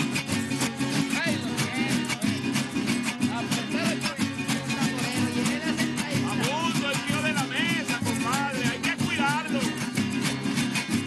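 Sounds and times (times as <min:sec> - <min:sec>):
guitar strumming: 0:00.0 - 0:11.0.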